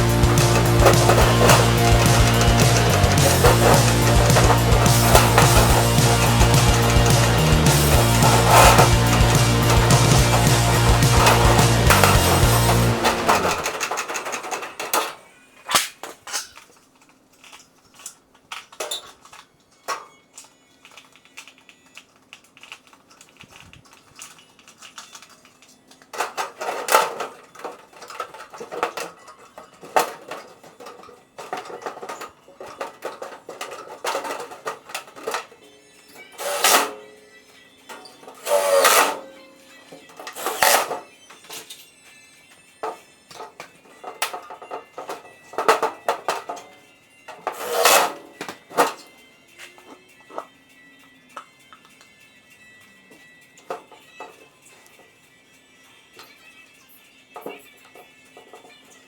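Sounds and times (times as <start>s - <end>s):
tools clicking and tapping: 0.0s - 37.2s, 37.8s - 52.2s
parts clattering: 0.0s - 50.6s.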